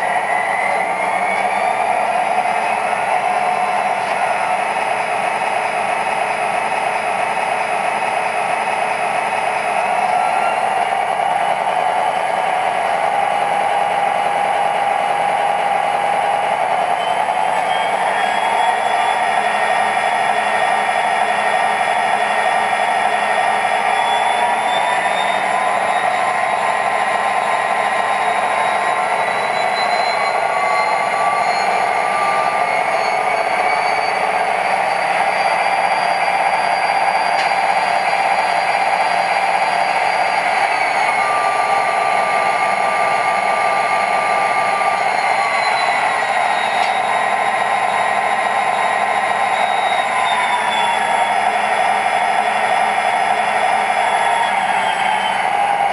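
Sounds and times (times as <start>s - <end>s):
diesel locomotive idle from speaker: 0.0s - 55.9s.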